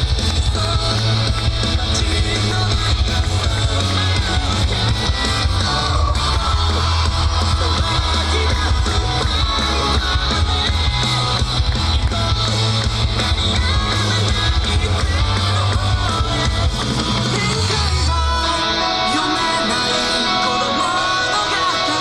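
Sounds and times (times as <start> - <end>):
heavy bass line: 0.0 - 20.3
loud dance music with singing: 0.0 - 22.0.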